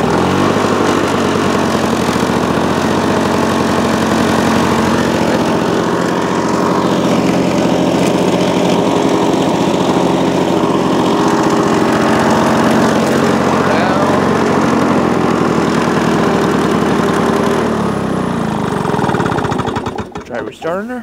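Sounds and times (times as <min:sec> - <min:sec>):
lawn mower engine running: 0:00.0 - 0:21.0.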